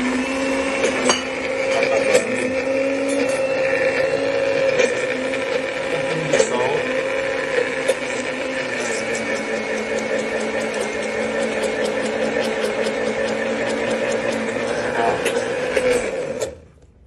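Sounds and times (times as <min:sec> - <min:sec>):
blender motor whining: 0:00.0 - 0:16.8.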